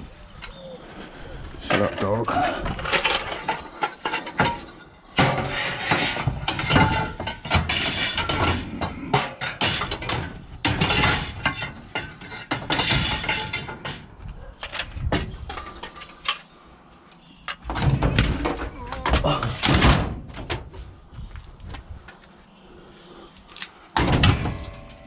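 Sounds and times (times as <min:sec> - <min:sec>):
scrap metal clanking and rattling: 0:01.6 - 0:20.8, 0:23.9 - 0:25.0.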